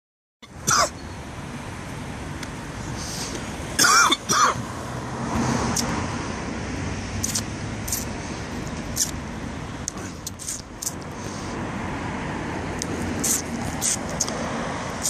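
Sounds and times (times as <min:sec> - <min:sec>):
street traffic: 0:00.4 - 0:15.0.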